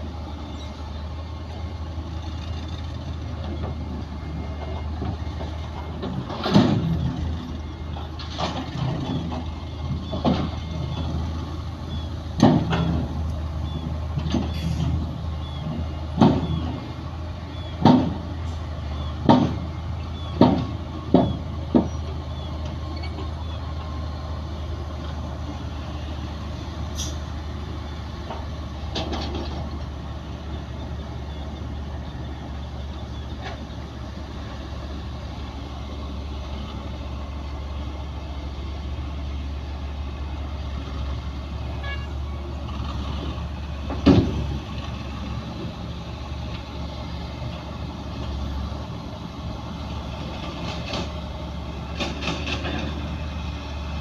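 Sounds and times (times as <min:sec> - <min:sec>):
diesel machinery rumbling: 0:00.0 - 0:54.0.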